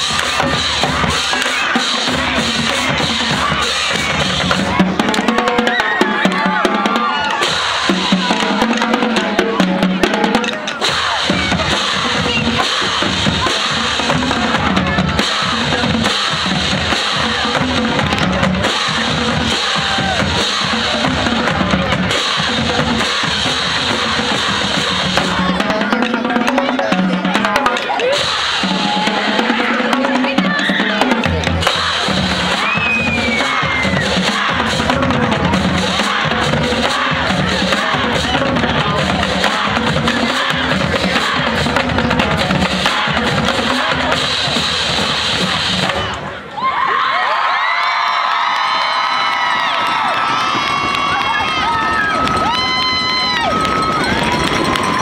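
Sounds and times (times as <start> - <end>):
bass drums: 0.0 - 46.3, 48.7 - 55.0
snare drums: 0.0 - 46.4, 48.6 - 55.0
tenor drums: 0.0 - 46.4, 48.6 - 55.0.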